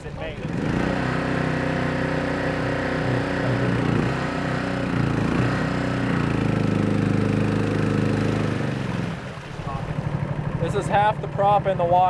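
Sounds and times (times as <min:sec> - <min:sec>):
boat engine running: 0:00.0 - 0:12.0
propeller churning water: 0:00.0 - 0:12.0.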